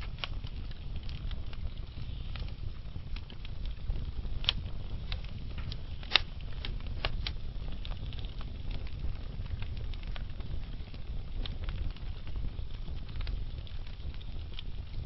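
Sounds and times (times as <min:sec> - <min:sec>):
fireplace flames rumbling: 0:00.0 - 0:15.0
wood crackling and popping: 0:00.0 - 0:15.0.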